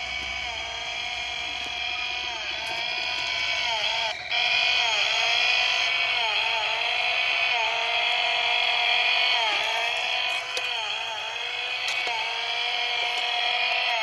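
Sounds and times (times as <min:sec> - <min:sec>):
toy chainsaw electronic engine sound: 0:00.0 - 0:14.0.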